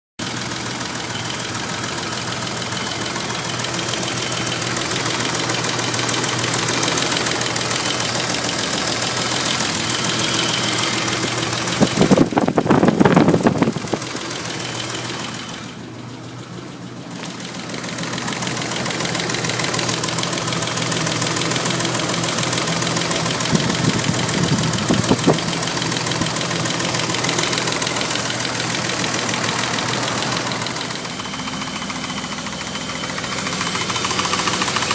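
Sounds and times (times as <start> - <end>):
engine running with knocking tick: 0.2 - 34.9.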